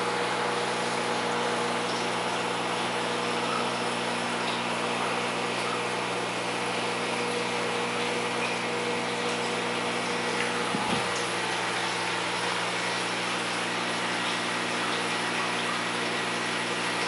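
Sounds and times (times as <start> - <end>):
aquarium pump humming: 0.0 - 17.0
water hissing through filter: 0.0 - 17.0.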